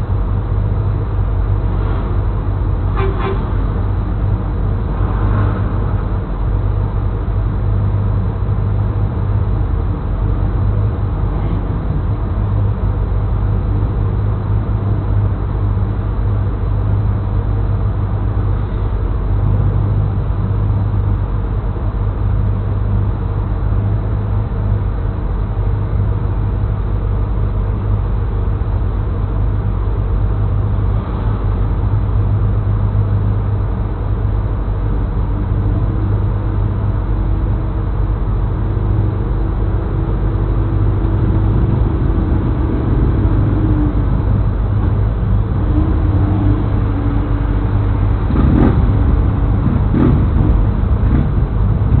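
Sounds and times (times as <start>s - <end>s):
higher engine tone: 0.0s - 52.0s
car engine idling: 5.7s - 52.0s.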